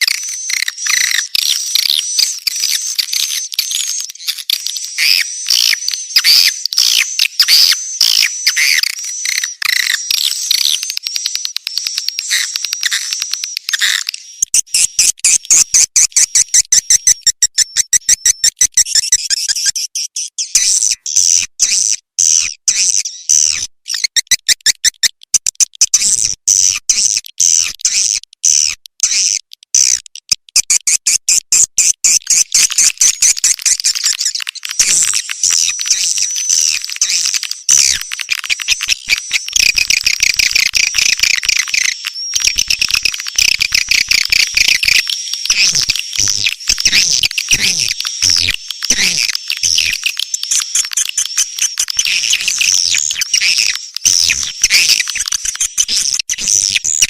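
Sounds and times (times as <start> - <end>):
rapid dry clicking trills: 0.0 - 57.0.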